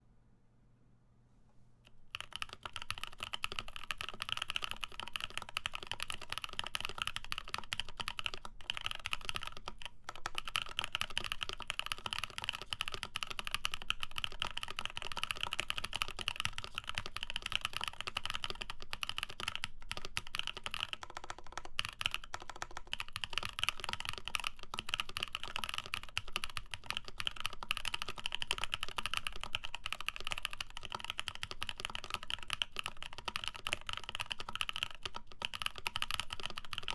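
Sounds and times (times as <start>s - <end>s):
fast mechanical keyboard typing: 2.1s - 36.9s.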